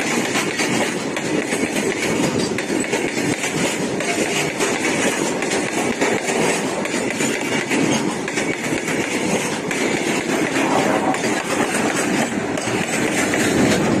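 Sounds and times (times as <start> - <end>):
train wheels on rails: 0.0 - 14.0.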